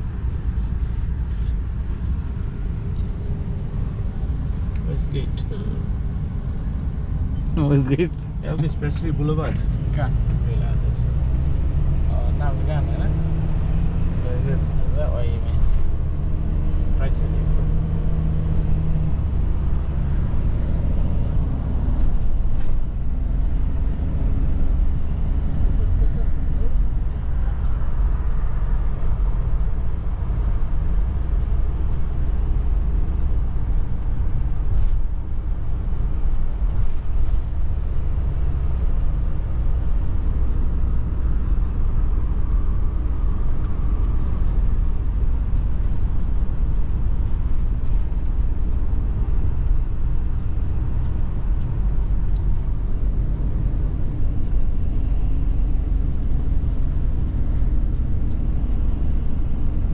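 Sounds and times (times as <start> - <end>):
engine and road rumble inside vehicle: 0.0 - 59.9.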